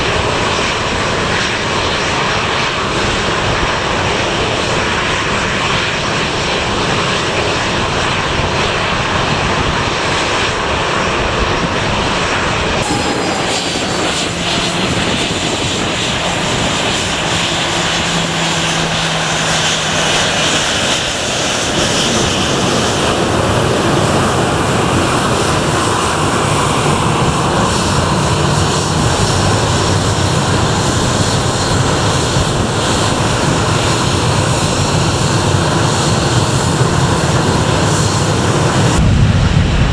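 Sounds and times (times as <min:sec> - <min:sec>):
jet engines rumble and hiss: 0:00.0 - 0:39.9.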